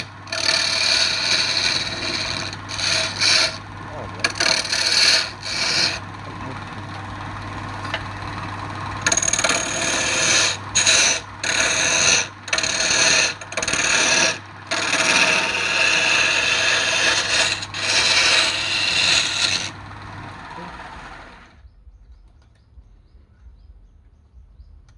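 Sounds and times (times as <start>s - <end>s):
lathe motor humming: 0.0s - 21.6s
tool scraping spinning wood: 0.0s - 21.6s.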